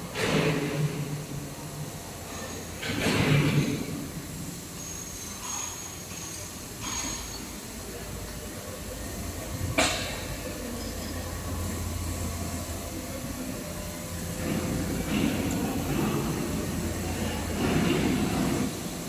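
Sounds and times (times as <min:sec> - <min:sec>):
machinery humming and hissing: 0:00.0 - 0:19.0.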